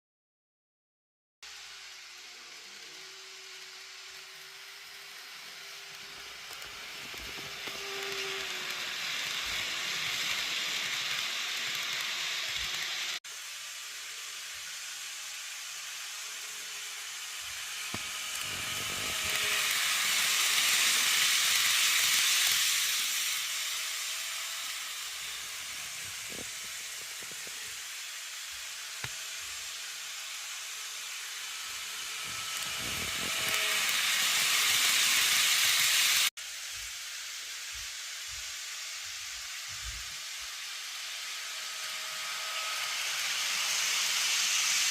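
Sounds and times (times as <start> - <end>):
model train wheels hissing on rail: 1.4 - 44.9.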